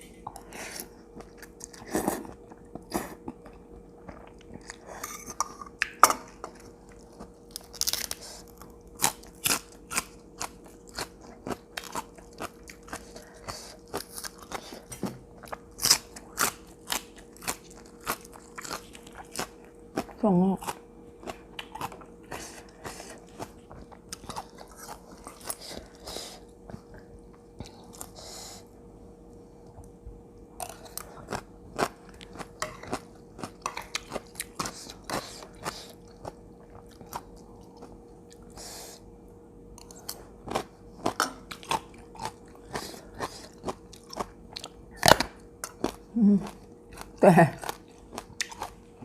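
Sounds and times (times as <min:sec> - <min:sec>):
faint steady hum: 0:00.0 - 0:49.0
person chewing crunchy vegetables: 0:00.2 - 0:28.7, 0:29.6 - 0:49.0.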